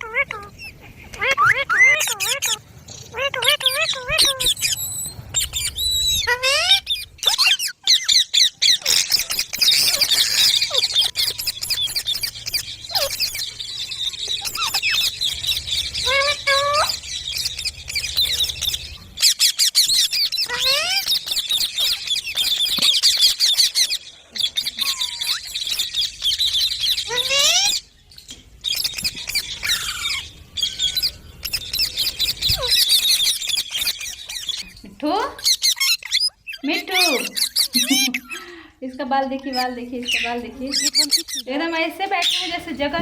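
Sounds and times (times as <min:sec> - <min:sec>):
parakeets chattering and screeching: 0:00.0 - 0:43.0.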